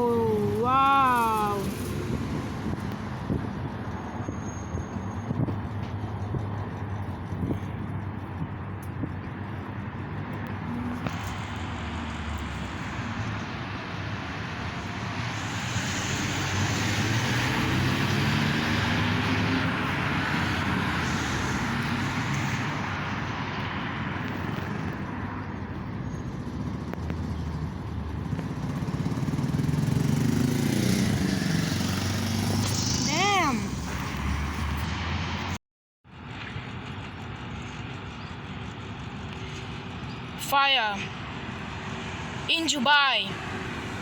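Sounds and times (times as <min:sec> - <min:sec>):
vehicles driving past: 0:00.0 - 0:44.0.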